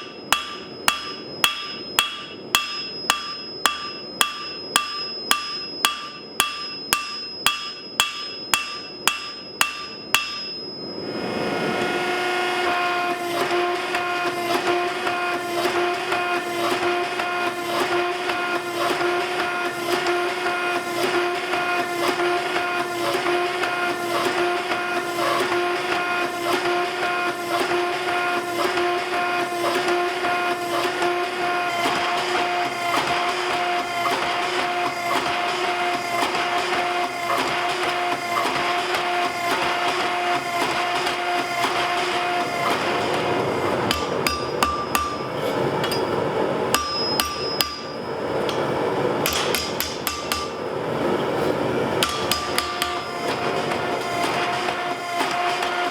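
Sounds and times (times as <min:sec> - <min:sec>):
shop machine motor humming: 0:08.9 - 0:55.9.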